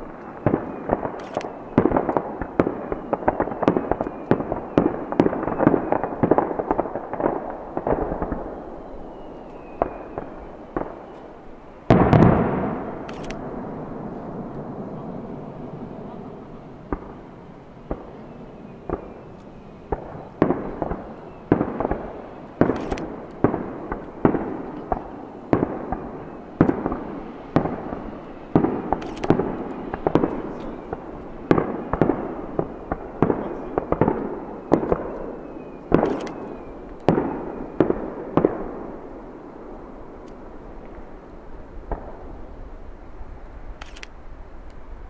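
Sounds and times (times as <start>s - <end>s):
fireworks bursting with echo: 0.0s - 45.0s.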